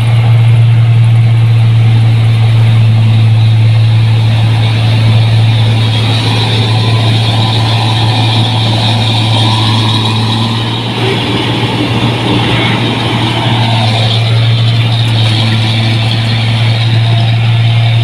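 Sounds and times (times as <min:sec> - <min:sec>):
combine harvester engine drone: 0:00.0 - 0:18.0
machinery noise: 0:00.0 - 0:18.0.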